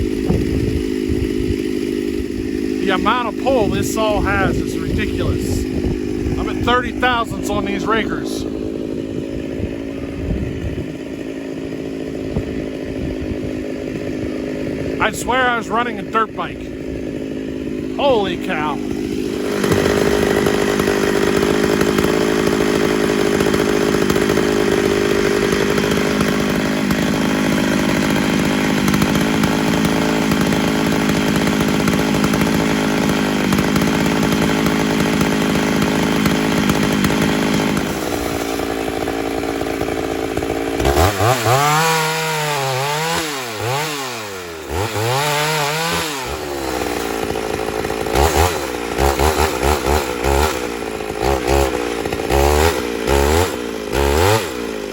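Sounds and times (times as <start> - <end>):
chainsaw revving: 0.0 - 54.9.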